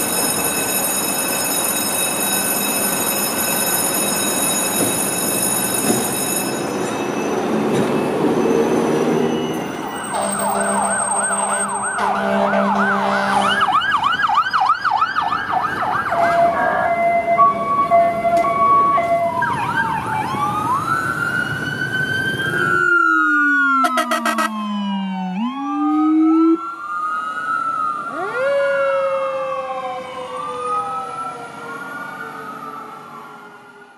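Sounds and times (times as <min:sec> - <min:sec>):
emergency vehicle sirens: 0:00.0 - 0:33.9
engine and street noise: 0:00.0 - 0:33.9.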